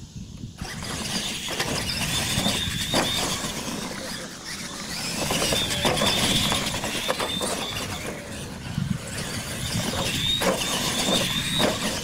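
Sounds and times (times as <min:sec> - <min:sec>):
electric motor and gear whine: 0:00.0 - 0:12.0
toy trucks hitting the ground: 0:00.6 - 0:12.0.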